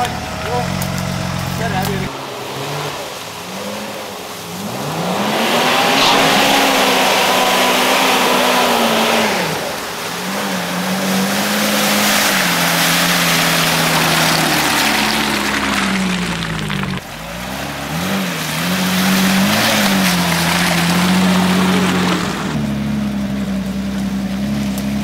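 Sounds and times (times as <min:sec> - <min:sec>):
wheels churning through mud: 0:00.0 - 0:25.0
engine revving hard: 0:01.5 - 0:22.6.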